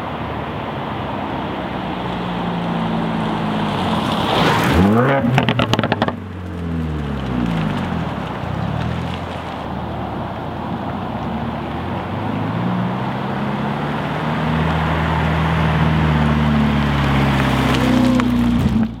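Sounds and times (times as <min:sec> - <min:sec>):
car exhaust passing by: 0:00.0 - 0:19.0.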